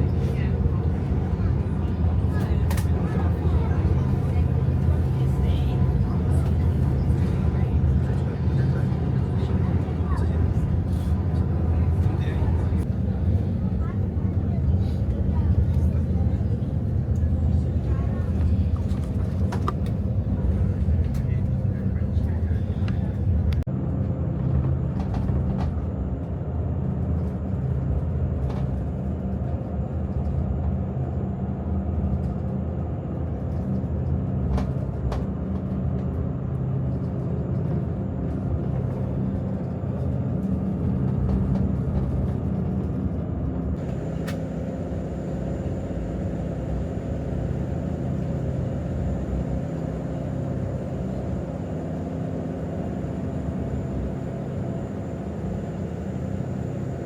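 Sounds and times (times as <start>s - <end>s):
vehicle engine rumble: 0.0s - 57.0s.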